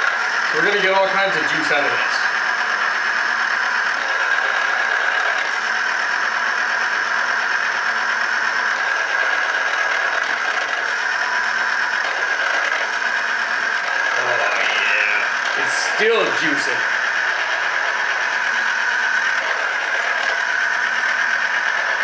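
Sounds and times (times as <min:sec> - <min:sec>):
citrus juicer motor whir: 0:00.0 - 0:22.0.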